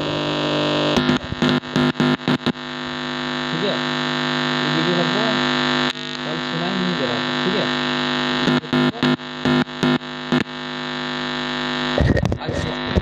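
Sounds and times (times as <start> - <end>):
amplifier electrical hum: 0.0 - 13.0.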